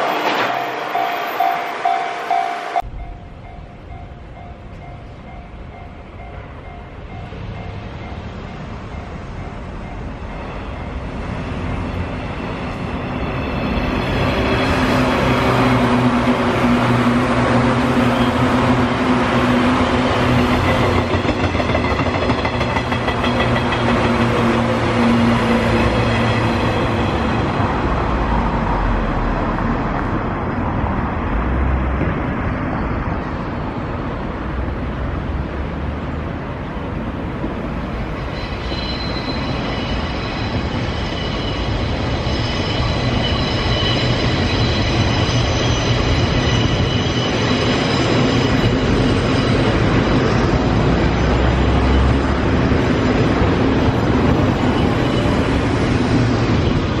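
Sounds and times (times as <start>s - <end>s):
steady high tones: 0.0s - 27.8s, 38.0s - 57.0s
train wheels rumbling on rail: 0.0s - 57.0s.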